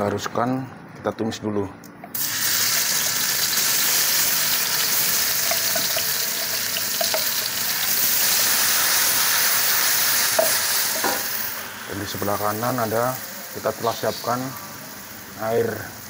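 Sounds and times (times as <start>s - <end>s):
paste sizzling in hot oil: 2.1s - 16.0s.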